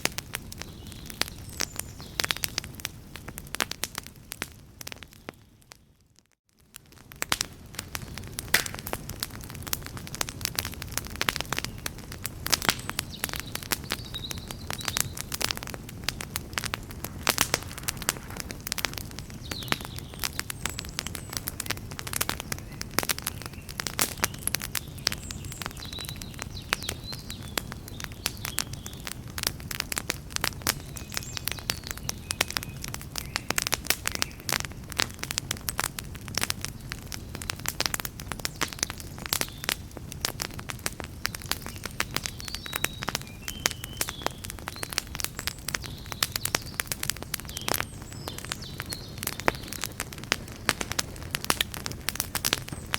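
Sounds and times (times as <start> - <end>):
campfire crackling and popping: 0.0 - 52.9
low rumble of flames: 0.0 - 52.9.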